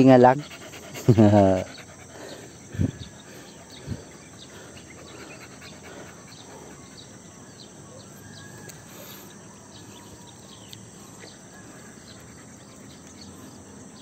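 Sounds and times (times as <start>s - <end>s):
birds chirping: 0.0s - 14.0s
insects chirping: 0.0s - 14.0s.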